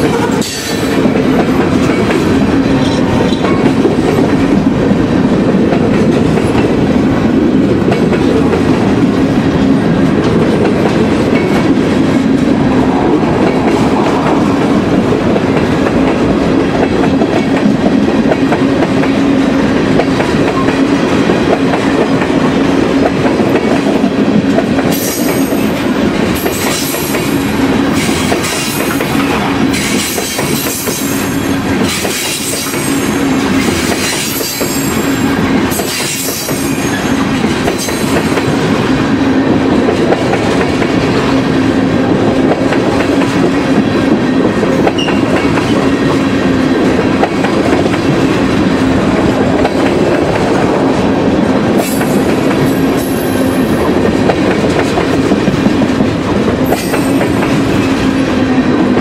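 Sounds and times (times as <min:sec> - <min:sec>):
train wheels clattering: 0:00.0 - 0:41.6, 0:42.5 - 0:59.0.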